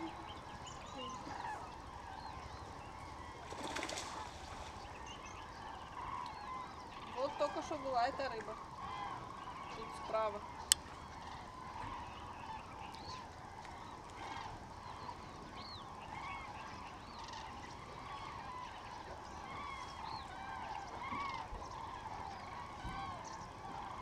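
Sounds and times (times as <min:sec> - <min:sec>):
short higher bird calls: 0:00.0 - 0:24.0
water birds honking: 0:00.0 - 0:24.0.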